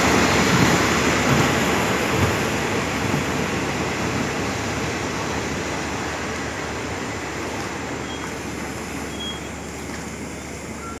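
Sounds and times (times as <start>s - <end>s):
passenger train running: 0.0s - 11.0s.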